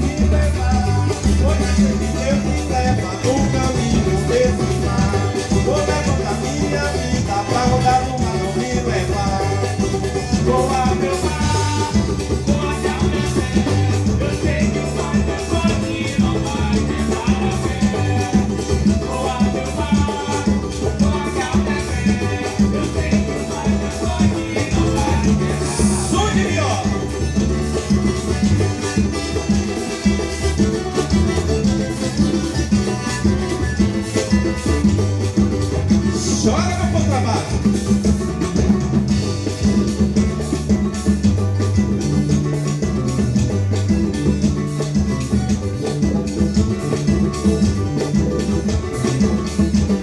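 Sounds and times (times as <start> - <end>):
upbeat latin-style music: 0.0 - 50.0.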